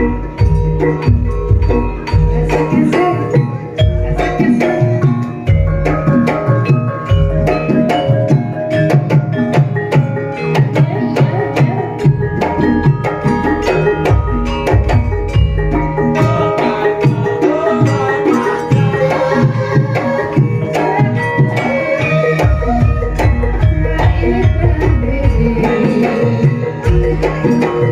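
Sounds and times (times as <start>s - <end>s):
metallophone tones ringing: 0.0s - 27.9s.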